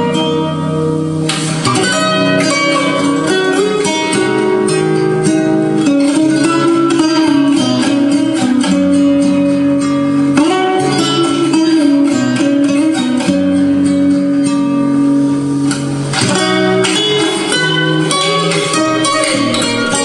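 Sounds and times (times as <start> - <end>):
guitar music through speakers: 0.0 - 20.0.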